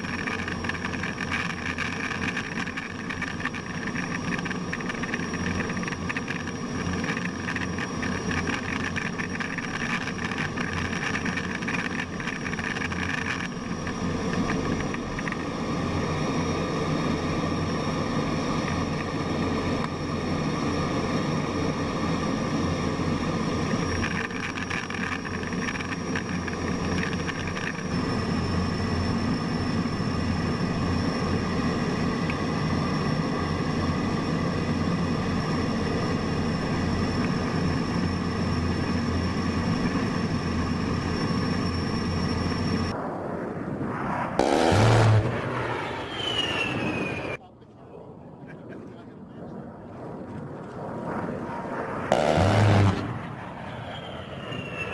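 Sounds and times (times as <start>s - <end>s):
high steady whine: 0.0s - 49.4s, 50.6s - 54.9s
jet engine drone: 0.0s - 54.9s.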